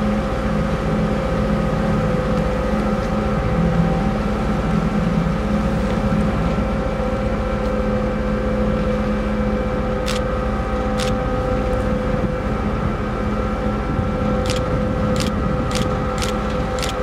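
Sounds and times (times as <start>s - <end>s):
churning water wash: 0.0s - 17.0s
ferry engine drone: 0.0s - 17.0s.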